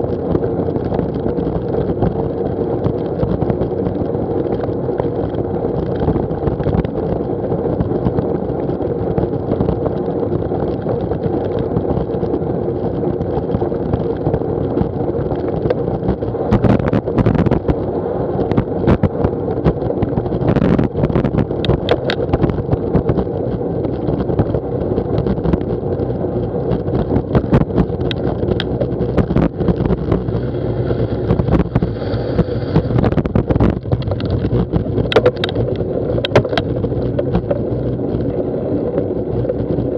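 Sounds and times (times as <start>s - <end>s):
bicycle tyres rolling on wet tarmac: 0.0s - 39.9s
bike rattling over bumps: 0.0s - 39.9s
wind on microphone: 0.0s - 39.9s.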